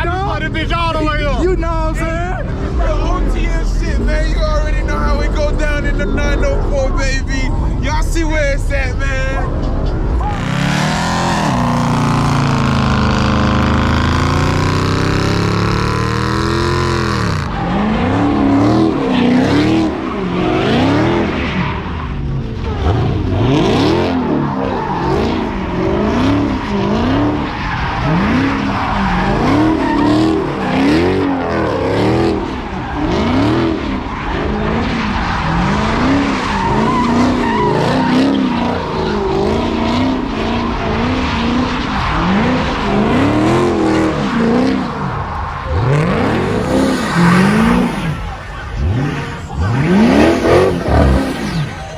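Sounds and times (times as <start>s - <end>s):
car engine revving: 0.0s - 51.9s
engine and tire rush: 0.0s - 51.9s
tires skidding and squealing: 0.0s - 51.9s.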